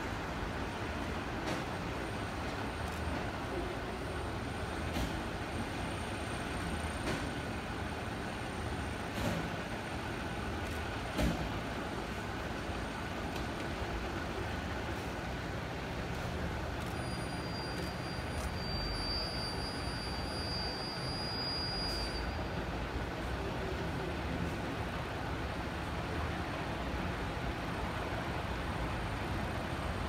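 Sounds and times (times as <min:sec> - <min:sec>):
diesel engines idling: 0:00.0 - 0:30.0.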